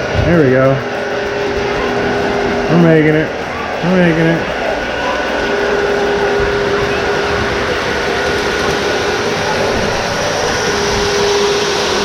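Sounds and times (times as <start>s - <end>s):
model train motor humming: 0.0s - 12.0s
train wheels rolling: 0.0s - 12.0s.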